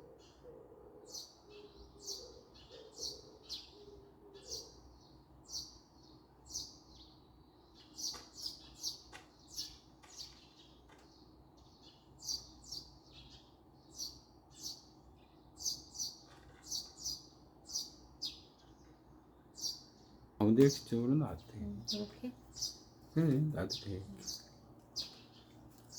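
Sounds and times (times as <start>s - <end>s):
songbirds chirping: 0.0s - 25.9s.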